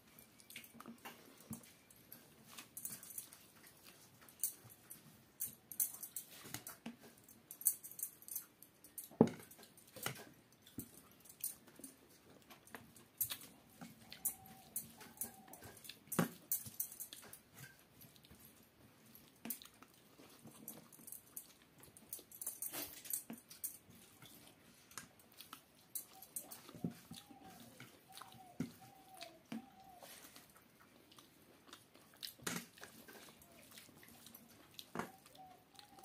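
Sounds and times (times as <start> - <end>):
chewing and lip-smacking: 0.0 - 36.0
fingers mixing rice on steel plate: 0.2 - 36.0.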